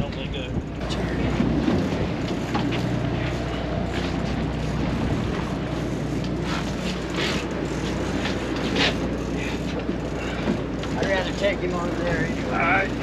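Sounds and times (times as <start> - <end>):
boat engine droning: 0.0 - 13.0
rushing wind and water: 0.0 - 13.0.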